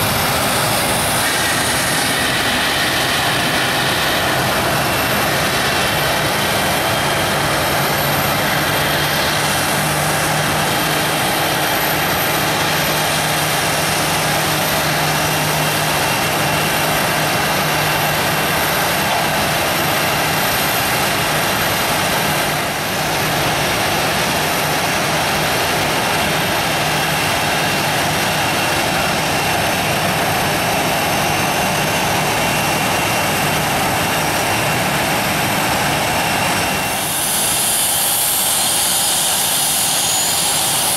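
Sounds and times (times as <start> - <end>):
jet engine whine and rush: 0.0 - 40.9.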